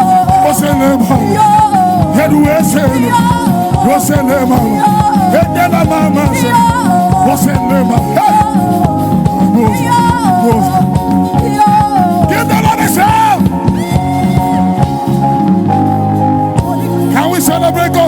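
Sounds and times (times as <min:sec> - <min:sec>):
voices singing or shouting: 0:00.0 - 0:16.0
band playing upbeat dance music: 0:00.0 - 0:18.0.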